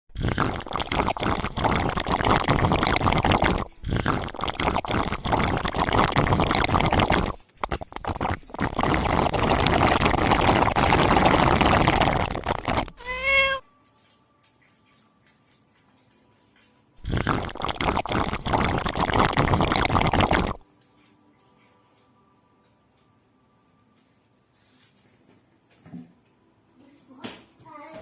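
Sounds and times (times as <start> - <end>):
cat lapping water: 0.2 - 22.8.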